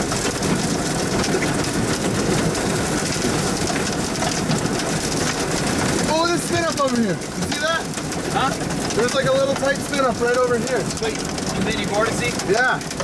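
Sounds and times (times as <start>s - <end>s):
heavy rain pelting vehicle: 0.0s - 13.0s.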